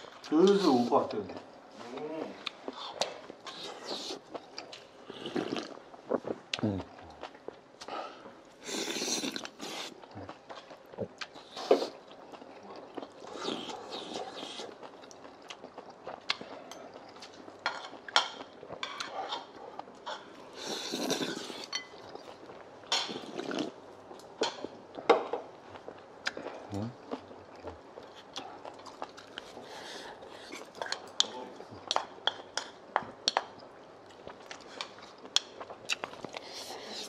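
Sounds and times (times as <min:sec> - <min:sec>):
eating sounds: 0:00.0 - 0:37.0.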